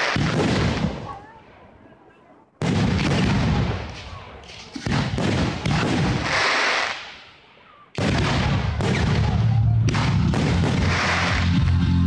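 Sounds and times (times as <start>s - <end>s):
fireworks booming: 0.0s - 1.6s, 2.6s - 11.8s.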